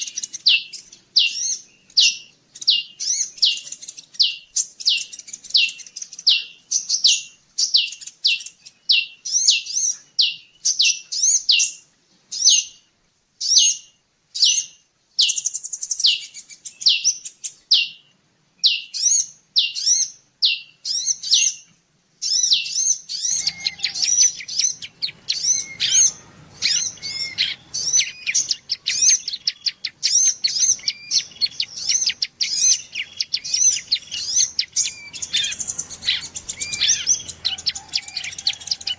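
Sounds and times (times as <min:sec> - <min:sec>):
faint background hiss: 0:00.0 - 0:38.9
songbird chirping: 0:00.0 - 0:38.9.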